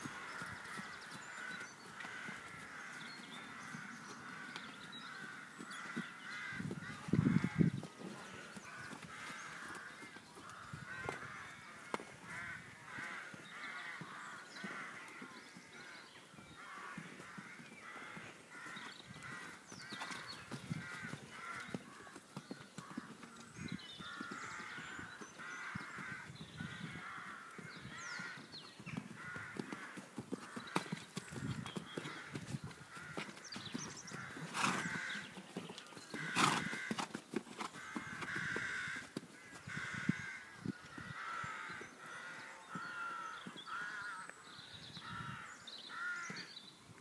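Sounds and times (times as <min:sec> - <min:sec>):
crows cawing: 0:00.0 - 0:22.2, 0:23.6 - 0:28.5, 0:29.1 - 0:30.8, 0:32.0 - 0:35.3, 0:36.2 - 0:37.0, 0:37.8 - 0:44.4, 0:45.0 - 0:46.5
horse hooves cantering: 0:00.0 - 0:41.9.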